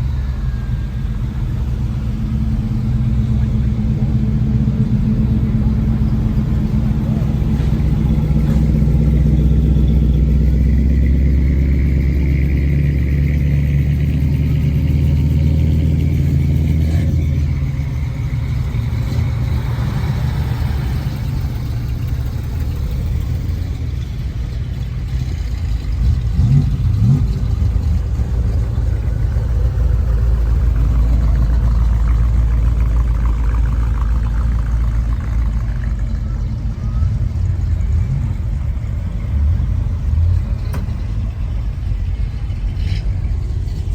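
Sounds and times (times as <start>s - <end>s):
car engines running: 0.0s - 43.9s.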